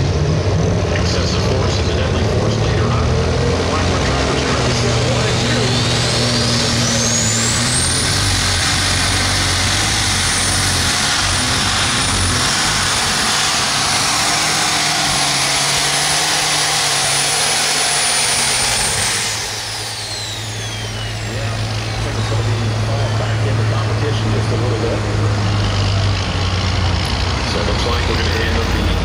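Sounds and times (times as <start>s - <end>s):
high turbo whine: 0.0s - 29.0s
tractor engine at full power: 0.0s - 29.0s.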